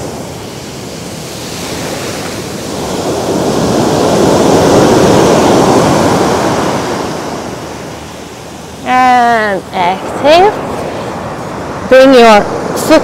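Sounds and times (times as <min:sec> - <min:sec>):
ocean surf breaking on sand: 0:00.0 - 0:13.0.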